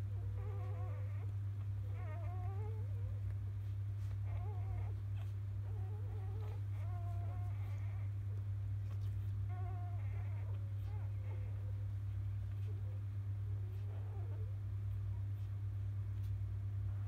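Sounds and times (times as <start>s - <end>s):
steady low hum: 0.0s - 17.0s
puppies squeaking and whining: 0.1s - 17.0s.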